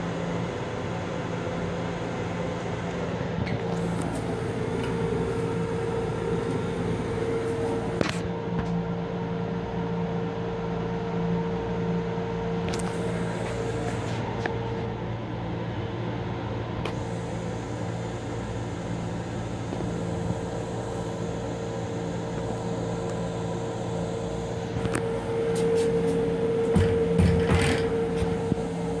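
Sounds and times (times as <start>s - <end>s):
ventilation hum: 0.0s - 29.0s.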